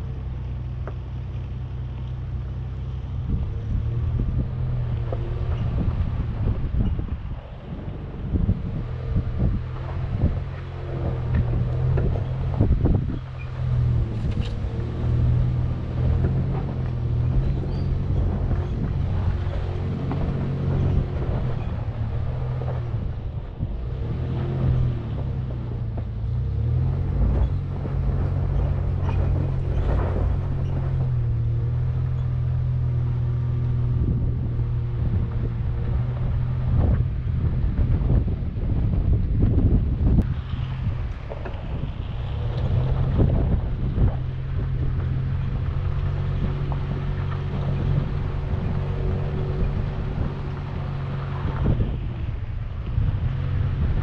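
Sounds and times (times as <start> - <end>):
pickup engine pulling uphill: 0.0 - 54.0.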